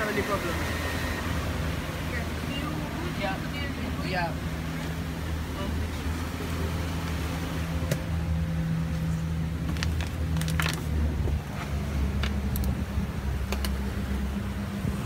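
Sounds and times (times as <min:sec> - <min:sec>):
outboard motors humming: 0:00.0 - 0:15.0.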